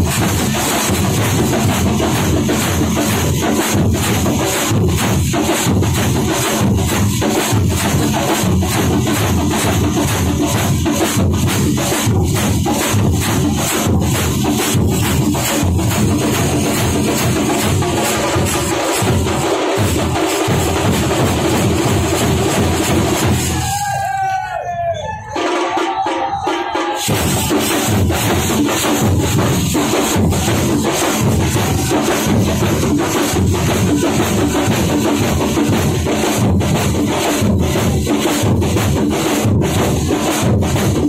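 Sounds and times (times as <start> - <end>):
drums beaten with sticks: 0.0 - 24.6, 25.2 - 41.0.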